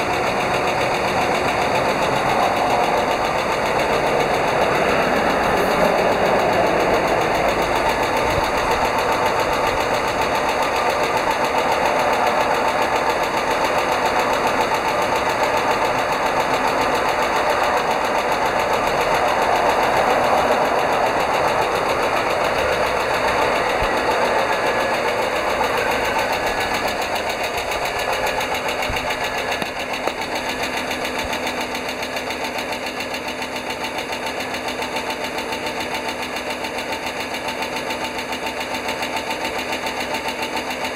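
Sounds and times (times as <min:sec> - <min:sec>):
bus engine running: 0:00.0 - 0:40.9
rapid ticking from valvetrain: 0:00.0 - 0:40.9.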